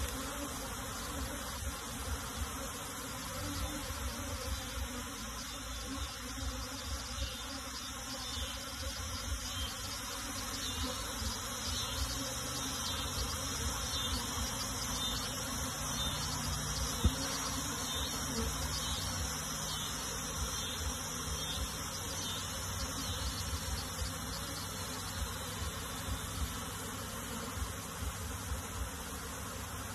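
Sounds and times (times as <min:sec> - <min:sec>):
honey bees buzzing: 0:00.0 - 0:29.9.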